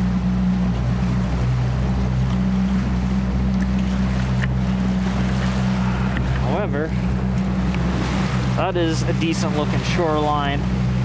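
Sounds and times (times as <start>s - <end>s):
boat motor humming: 0.0s - 11.0s
water noise: 0.0s - 11.0s.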